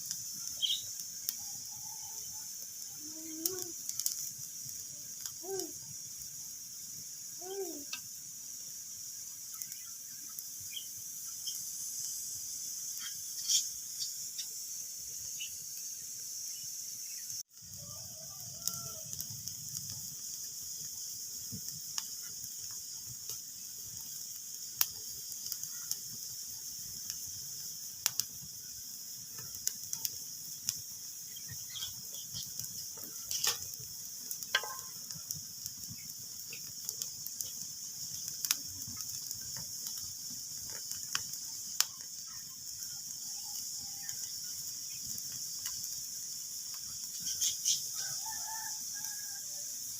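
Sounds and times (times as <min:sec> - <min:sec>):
wood fire crackling and popping: 0:00.0 - 0:14.7, 0:17.4 - 0:49.4.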